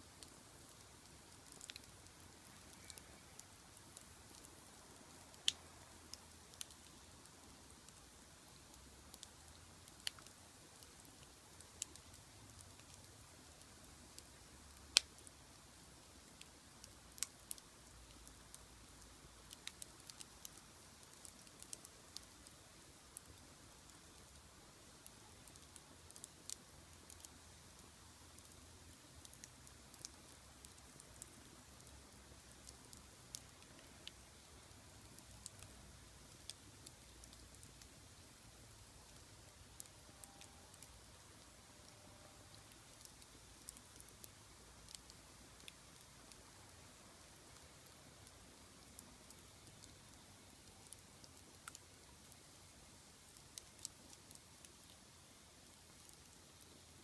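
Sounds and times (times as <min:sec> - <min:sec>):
faint steady hiss: 0:00.0 - 0:57.0
wood fire crackling and popping: 0:00.0 - 0:57.0.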